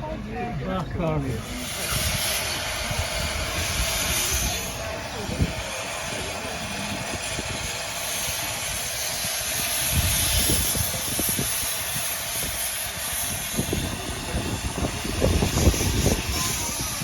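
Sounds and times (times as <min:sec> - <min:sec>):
steam train hissing: 0:00.3 - 0:17.0.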